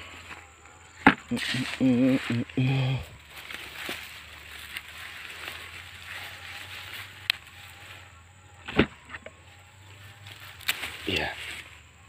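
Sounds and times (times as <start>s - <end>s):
vines and roots rustling: 0.0s - 12.0s.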